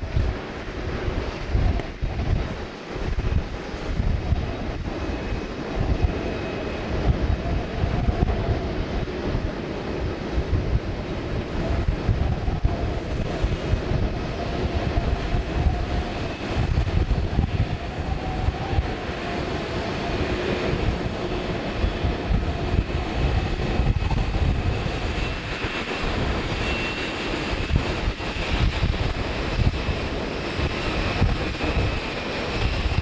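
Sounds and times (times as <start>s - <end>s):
distant jet engines whining: 0.0s - 33.0s
wind on microphone: 0.0s - 33.0s.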